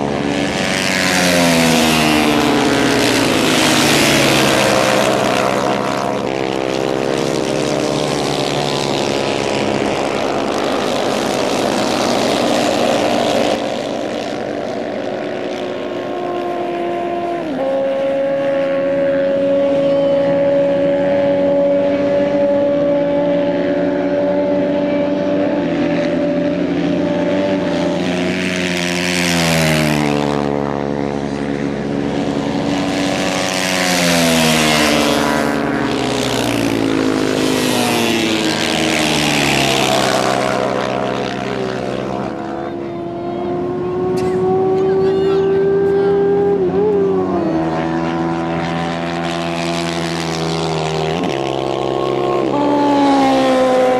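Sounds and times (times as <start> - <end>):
distant motorcycle engines: 0.0 - 53.9
motorcycle engines revving: 0.0 - 53.9.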